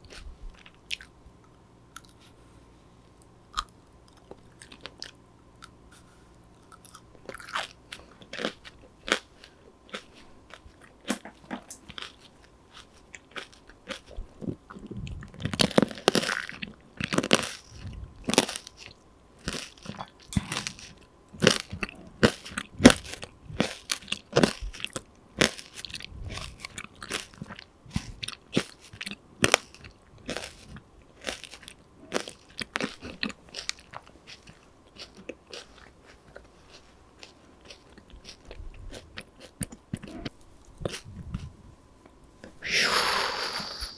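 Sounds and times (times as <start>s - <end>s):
chewing crunchy snack: 0.0s - 2.5s, 3.5s - 41.6s.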